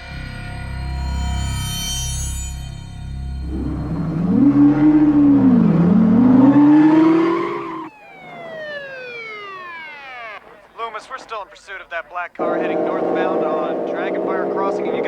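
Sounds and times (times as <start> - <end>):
car speeding past whine: 0.0 - 9.8, 12.4 - 15.0
car engine revving: 0.0 - 10.6, 12.4 - 15.0.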